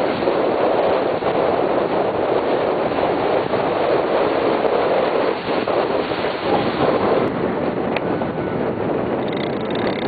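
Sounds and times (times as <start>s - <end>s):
water rushing along hulls: 0.0s - 10.0s
wind on microphone: 0.0s - 10.0s.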